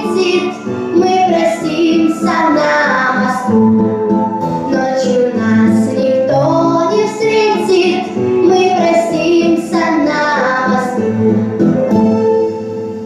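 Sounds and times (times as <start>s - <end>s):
girl singing: 0.0s - 11.5s
musical accompaniment: 0.0s - 13.0s.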